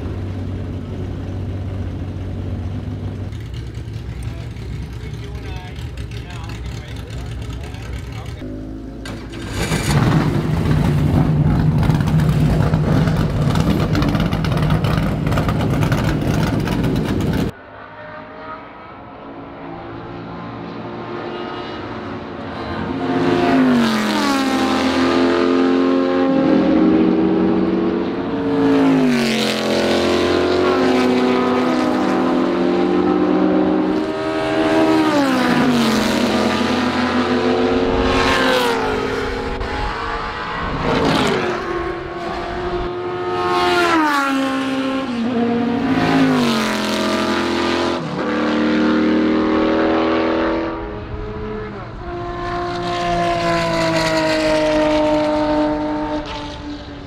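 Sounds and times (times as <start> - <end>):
race car engines running loud: 0.0 - 17.8, 18.7 - 57.0.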